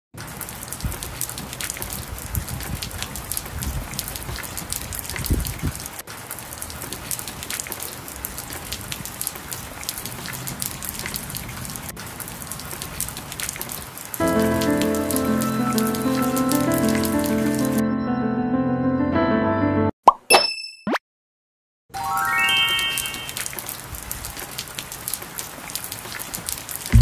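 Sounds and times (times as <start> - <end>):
steady rainfall: 0.2 - 17.8, 22.1 - 27.0.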